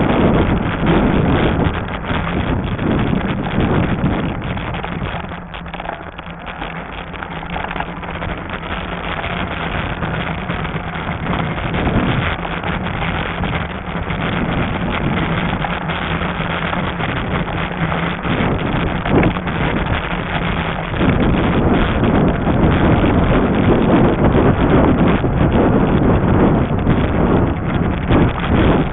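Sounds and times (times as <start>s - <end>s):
steady low hum: 0.0s - 28.9s
wind rushing over microphone: 0.0s - 28.9s.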